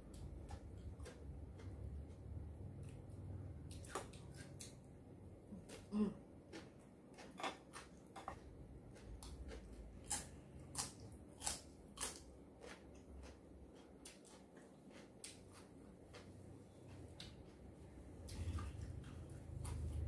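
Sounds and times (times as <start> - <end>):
person chewing crunchy vegetables: 0.1 - 4.8, 5.5 - 20.0.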